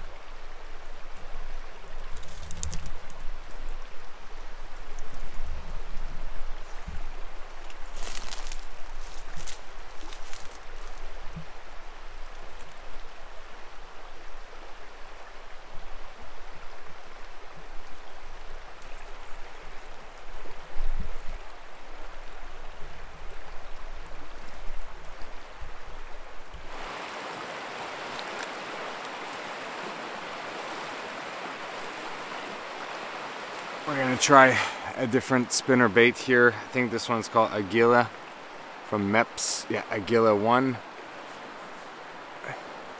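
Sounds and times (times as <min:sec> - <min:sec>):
creek water rushing: 0:00.0 - 0:42.9.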